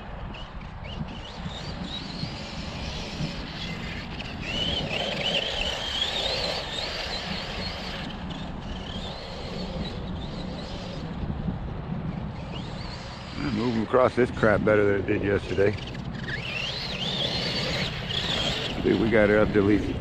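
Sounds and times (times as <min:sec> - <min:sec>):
tires rumbling on dirt: 0:00.0 - 0:20.0
wind: 0:00.0 - 0:20.0
electric motor whining: 0:00.3 - 0:20.0.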